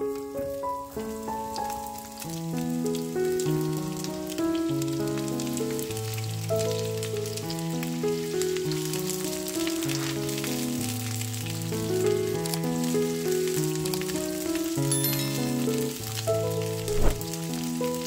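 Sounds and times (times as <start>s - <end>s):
onions sizzling in hot oil: 0.0s - 18.0s
slow melodic background music: 0.0s - 18.0s.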